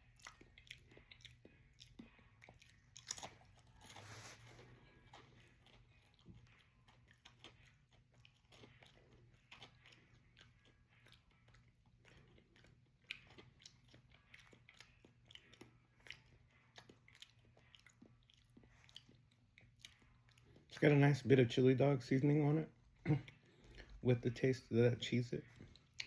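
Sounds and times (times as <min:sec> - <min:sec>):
person chewing crunchy crackers: 0:00.0 - 0:20.8, 0:23.1 - 0:24.1, 0:25.4 - 0:26.0.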